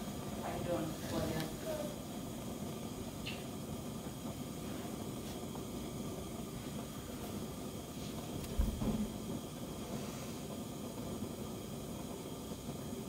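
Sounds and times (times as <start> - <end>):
bunsen burner hissing: 0.0 - 13.0.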